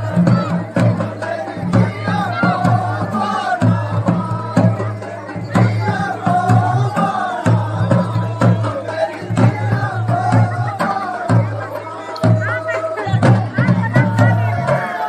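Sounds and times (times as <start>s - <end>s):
folk drumming: 0.0s - 15.0s
group of voices singing: 0.0s - 15.0s.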